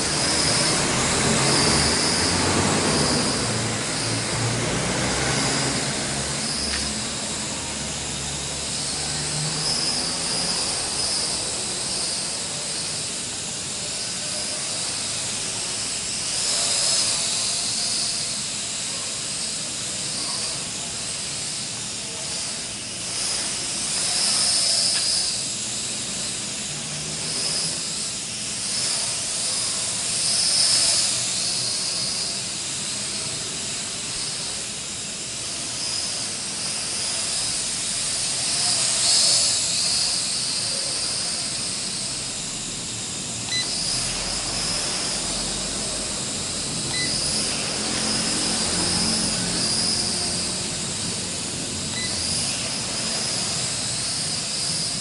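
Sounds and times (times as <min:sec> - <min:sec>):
quadcopter propellers whining: 0:00.0 - 0:55.0.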